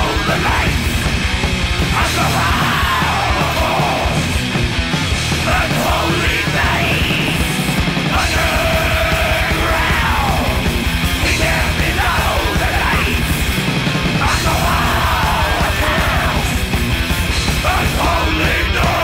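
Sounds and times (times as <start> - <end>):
distorted guitars: 0.0 - 19.0
fast pounding drums: 0.0 - 19.0
high wailing guitar lines: 0.0 - 19.0.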